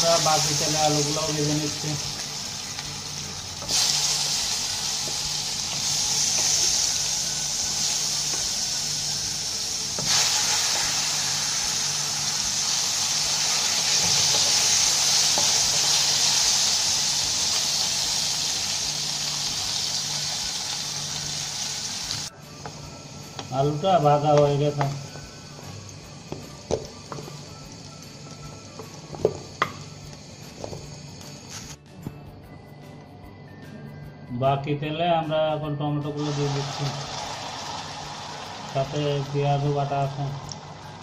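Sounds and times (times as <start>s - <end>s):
potato wedges sizzling in oil: 0.0s - 31.8s, 36.2s - 41.0s.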